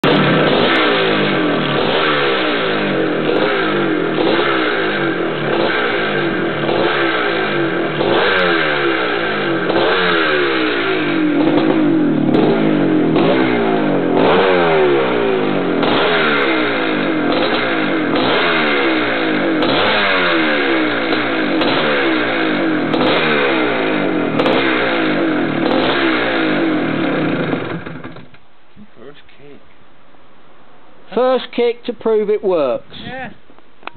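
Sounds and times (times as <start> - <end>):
two-stroke engine revving: 0.0 - 28.4.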